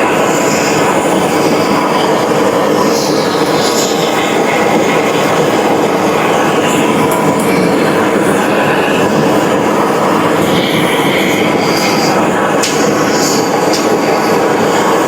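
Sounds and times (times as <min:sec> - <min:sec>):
machine running: 0:00.0 - 0:15.0.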